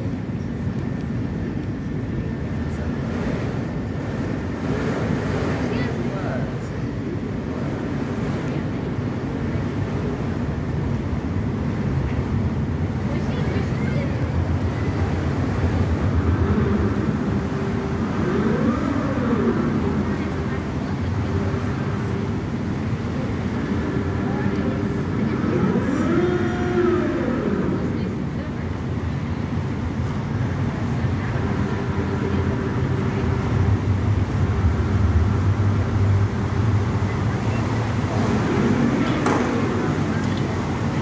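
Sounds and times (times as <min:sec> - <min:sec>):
ferry engines low rumble: 0:00.0 - 0:41.0.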